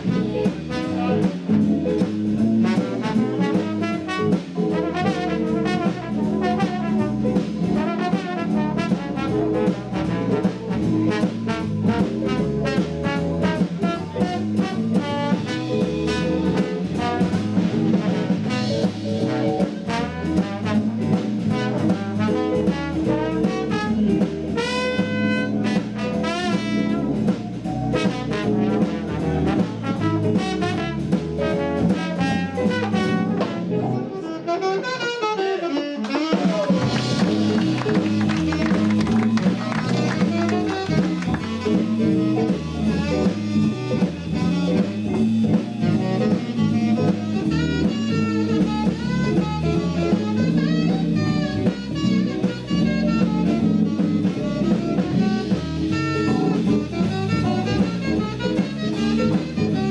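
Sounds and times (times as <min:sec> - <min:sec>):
bass guitar: 0:00.0 - 0:59.9
drum kit: 0:00.0 - 0:59.9
electric guitar: 0:00.0 - 0:59.9
jazz band playing swing: 0:00.0 - 0:59.9
saxophone: 0:00.0 - 0:59.9
trombone: 0:00.0 - 0:59.9.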